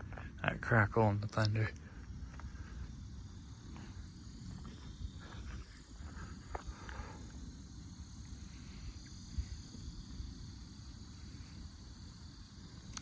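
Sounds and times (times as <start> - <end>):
crickets chirring: 0.0 - 13.0
low steady rumble: 0.0 - 13.0.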